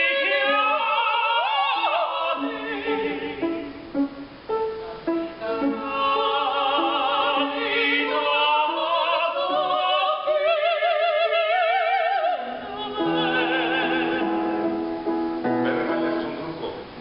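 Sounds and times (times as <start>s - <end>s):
piano chords: 0.0s - 10.7s, 12.3s - 17.0s
soprano singing operatically: 0.0s - 14.8s.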